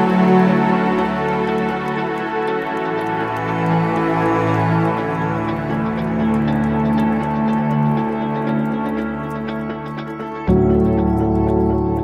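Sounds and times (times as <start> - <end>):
sustained chord music: 0.0 - 12.0.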